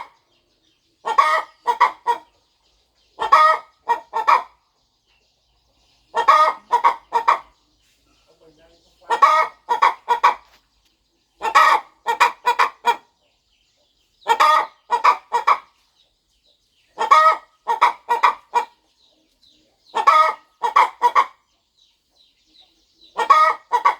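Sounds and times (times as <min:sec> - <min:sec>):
hen clucking: 0:00.0 - 0:23.9.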